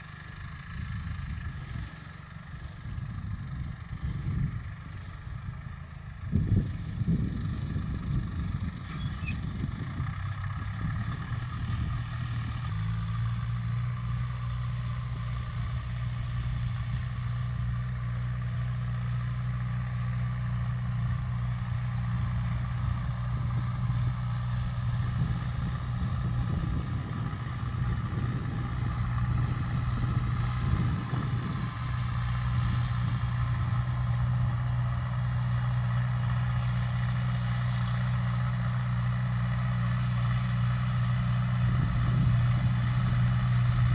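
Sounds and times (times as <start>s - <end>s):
tractor engine running under load: 0.0s - 43.9s.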